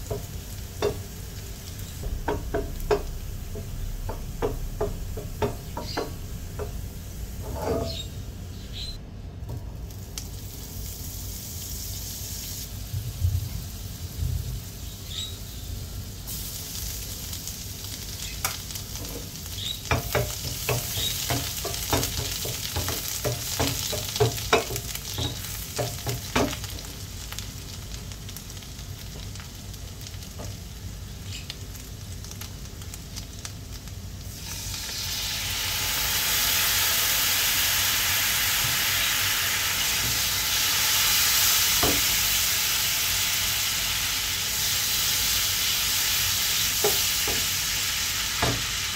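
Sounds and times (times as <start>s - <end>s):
butter and garlic sizzling in pan: 0.0s - 48.9s.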